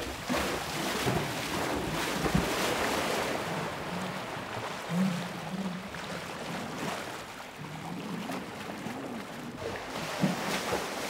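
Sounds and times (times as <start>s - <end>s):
horse splashing and swimming: 0.0s - 11.0s
water churning and sloshing: 0.0s - 11.0s.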